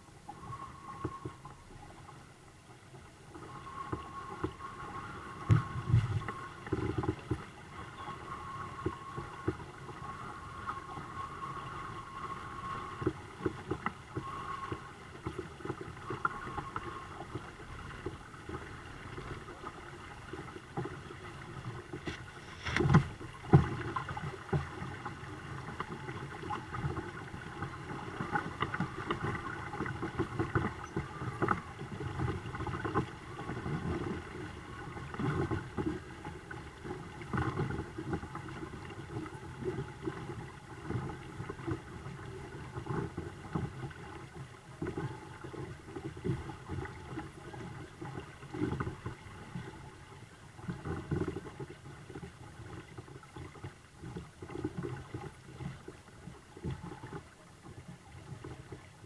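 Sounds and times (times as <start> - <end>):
water lapping against hulls: 0.0 - 59.0.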